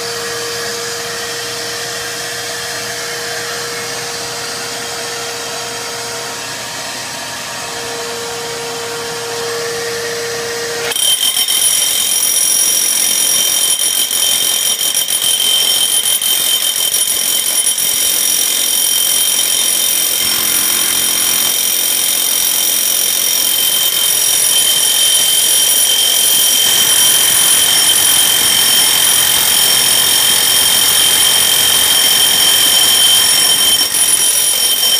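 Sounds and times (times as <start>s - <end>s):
drill grinding into concrete: 0.0s - 34.9s.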